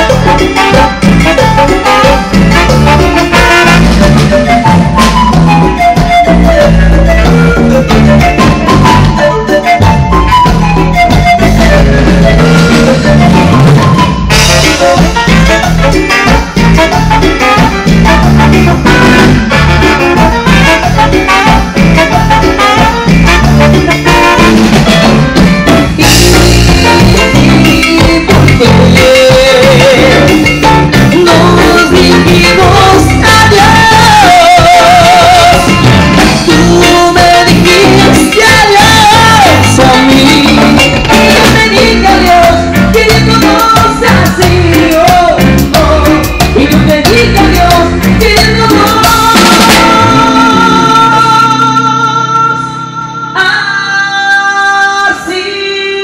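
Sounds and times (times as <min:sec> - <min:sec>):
drum kit: 0:00.0 - 0:52.8
electric bass: 0:00.0 - 0:53.6
saxophones: 0:00.0 - 0:54.0.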